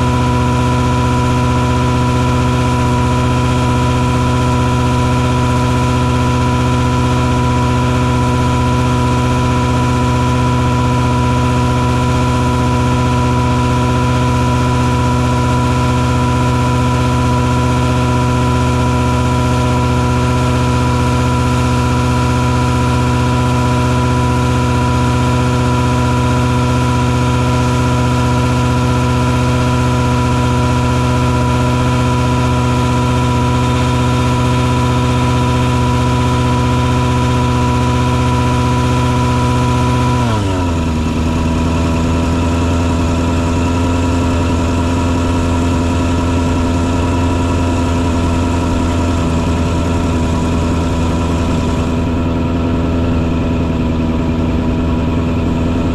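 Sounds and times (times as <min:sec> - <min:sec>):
truck engine whining: 0:00.0 - 0:55.9.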